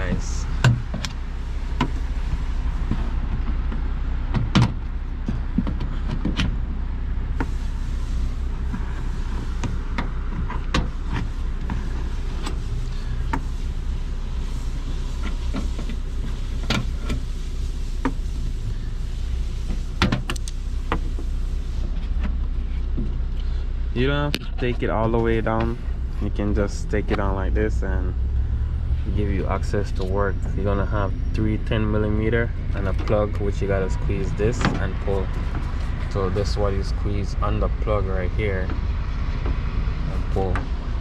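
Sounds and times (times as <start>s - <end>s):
low rumble: 0.0s - 41.0s.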